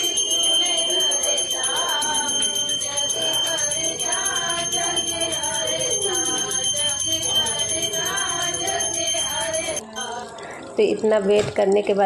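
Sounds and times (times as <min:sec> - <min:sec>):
hand bell ringing: 0:00.0 - 0:10.3
women singing devotional melody: 0:00.0 - 0:12.0.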